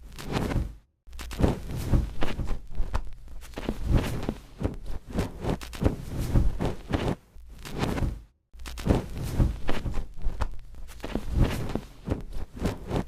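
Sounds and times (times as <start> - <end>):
knocks and crackles: 0.2 - 13.0.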